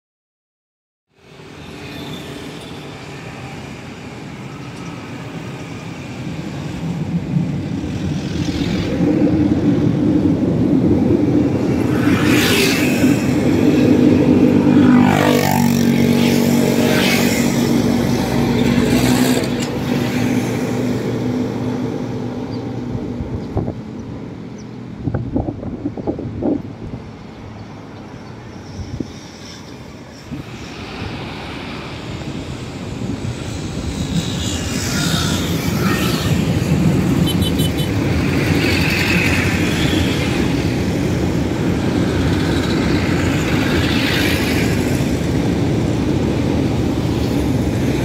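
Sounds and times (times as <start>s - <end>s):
light-rail train passing: 1.1s - 48.0s.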